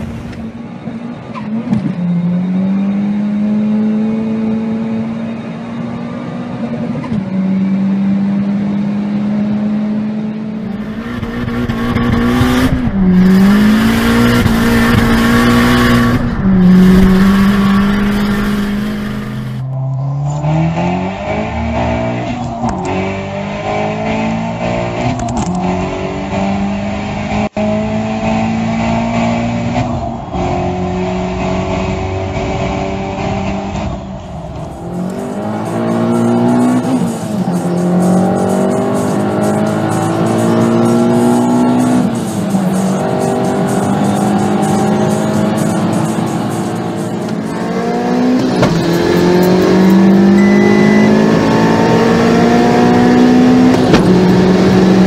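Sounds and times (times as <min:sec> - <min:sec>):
car engine accelerating hard: 0:01.2 - 0:55.0.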